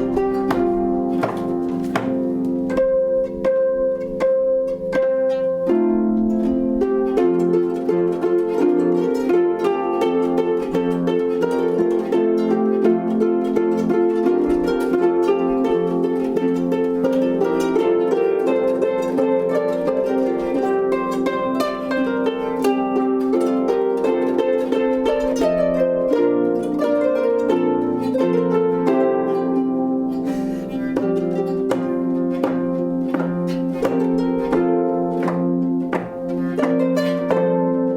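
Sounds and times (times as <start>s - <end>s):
plucked string music: 0.0s - 37.9s.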